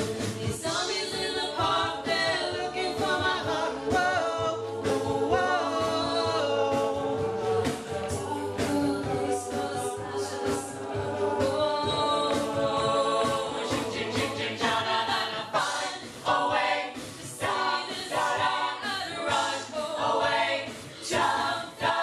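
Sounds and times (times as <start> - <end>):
a cappella group singing harmony: 0.0 - 22.0
percussive vocal beat: 0.0 - 22.0.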